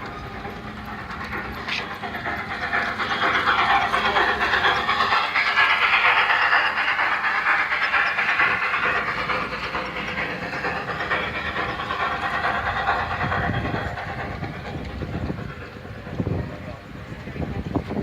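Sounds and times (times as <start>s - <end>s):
toy train rattling on track: 0.0s - 18.0s.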